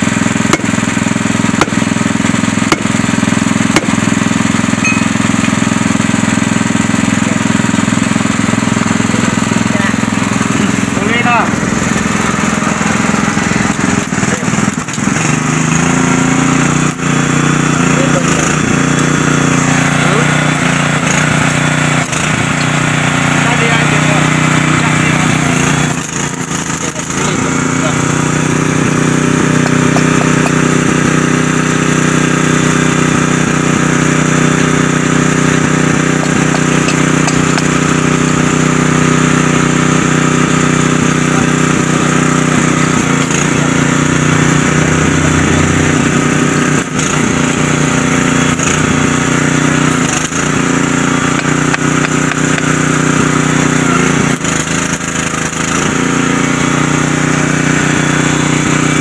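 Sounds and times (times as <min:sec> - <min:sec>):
welding generator engine running: 0:00.0 - 0:59.0.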